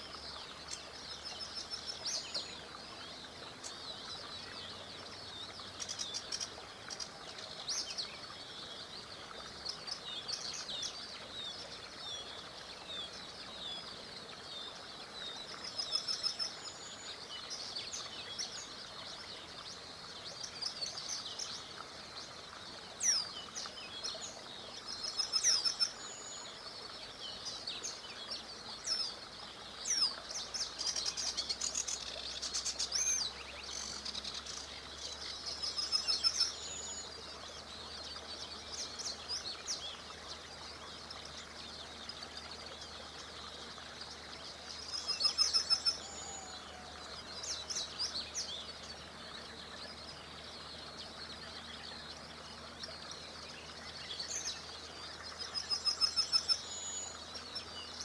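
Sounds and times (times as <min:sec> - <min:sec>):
small river rushing: 0:00.0 - 0:58.0
songbirds chirping and trilling: 0:00.0 - 0:58.0.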